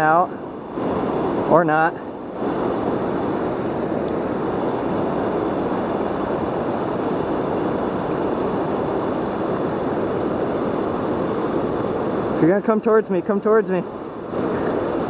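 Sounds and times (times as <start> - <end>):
river rushing over rocks: 0.0 - 15.0
waterfall: 0.0 - 15.0.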